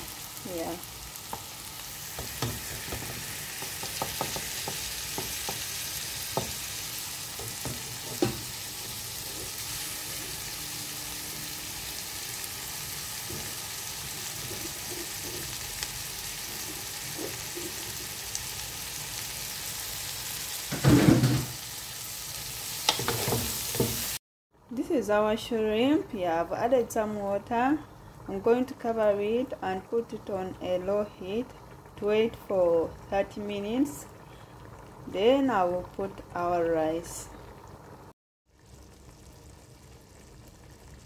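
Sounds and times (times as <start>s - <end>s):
food sizzling in a pot: 0.0s - 24.2s, 31.2s - 41.0s.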